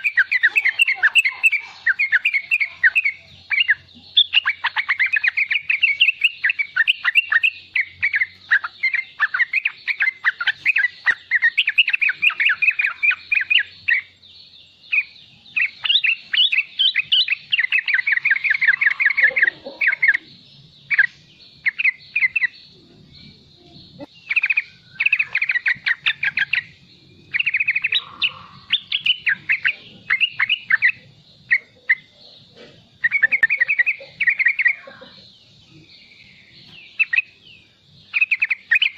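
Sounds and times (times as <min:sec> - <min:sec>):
bulbul twittering: 0:00.0 - 0:38.9.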